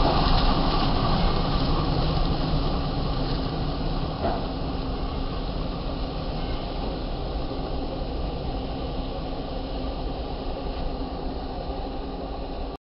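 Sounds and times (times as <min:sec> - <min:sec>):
tractor diesel engine rumbling: 0:00.0 - 0:12.5.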